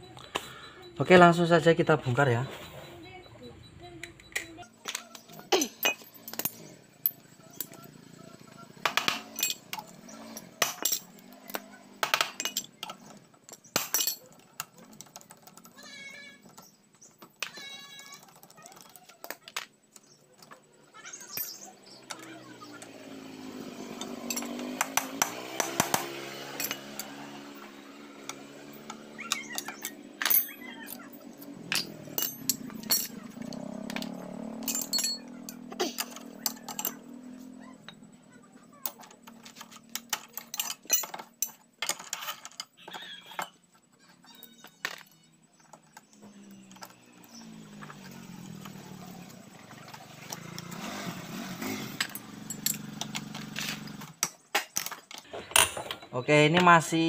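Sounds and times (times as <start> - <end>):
metal hand tools clinking: 4.2 - 57.0.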